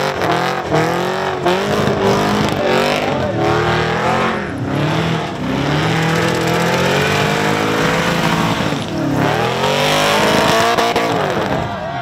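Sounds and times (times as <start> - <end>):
car engine at high revs: 0.0 - 12.0
tyres spinning in a burnout: 0.1 - 12.0.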